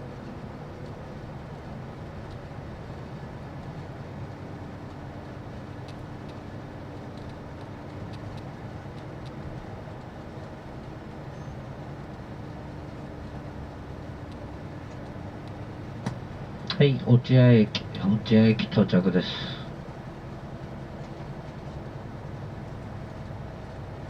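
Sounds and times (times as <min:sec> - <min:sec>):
light ticks: 0:00.0 - 0:16.8, 0:19.7 - 0:24.0
bus engine and road noise: 0:00.0 - 0:24.0.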